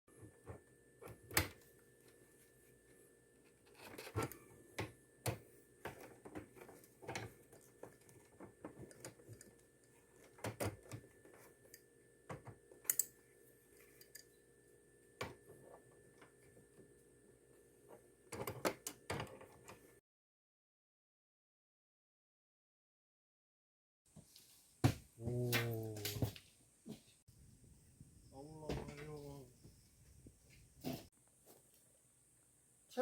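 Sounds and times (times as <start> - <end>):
faint steady hum: 0.2 - 20.0, 24.2 - 33.0.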